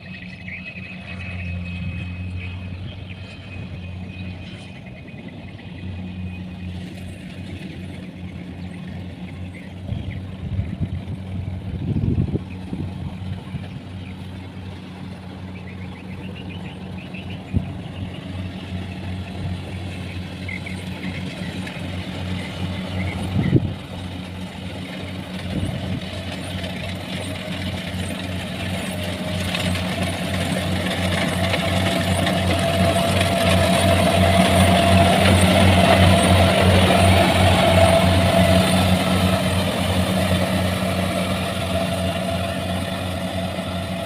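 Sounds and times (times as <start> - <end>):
combine harvester engine hum: 0.0 - 44.0.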